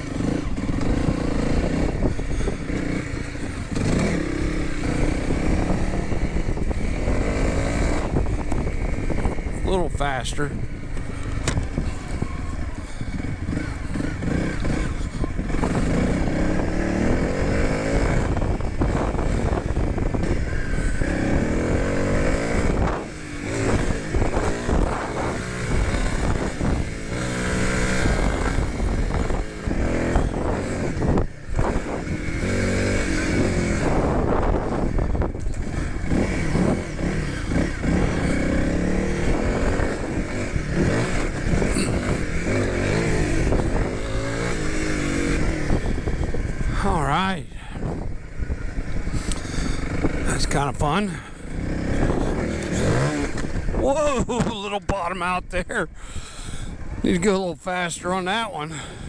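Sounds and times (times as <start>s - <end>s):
motorcycle engine ridden hard: 0.0s - 59.0s.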